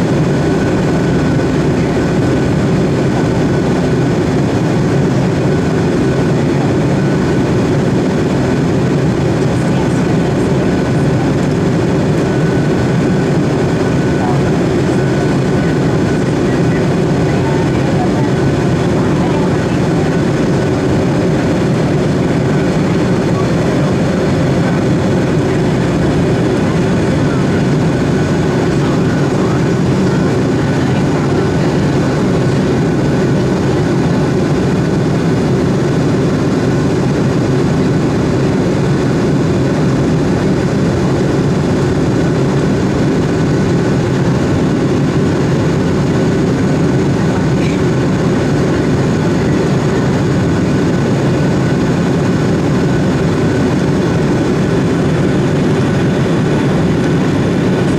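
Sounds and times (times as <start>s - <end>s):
jet engine and airflow noise: 0.0s - 57.9s.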